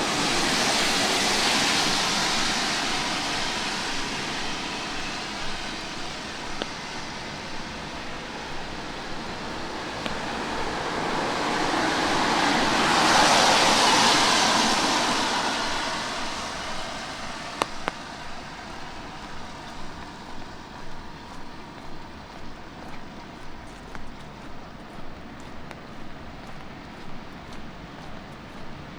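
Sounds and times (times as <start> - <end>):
car tyres hissing on wet road: 0.0 - 28.9
footsteps on wet pavement: 0.0 - 28.9.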